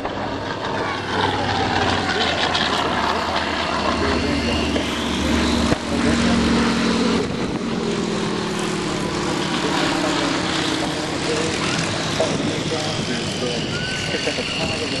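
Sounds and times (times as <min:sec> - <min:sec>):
propeller plane engine droning overhead: 0:00.0 - 0:15.0.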